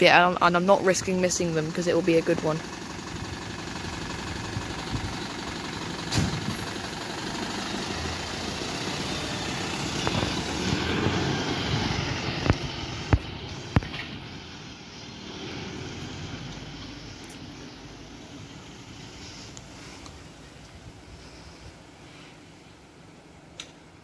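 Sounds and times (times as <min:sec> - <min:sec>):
diesel lorry engine: 0:00.0 - 0:24.0.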